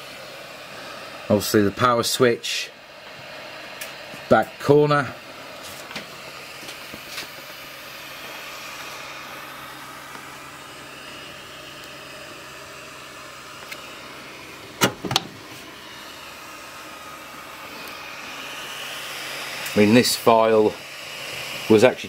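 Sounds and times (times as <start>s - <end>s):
cooling fans humming: 0.0s - 22.0s.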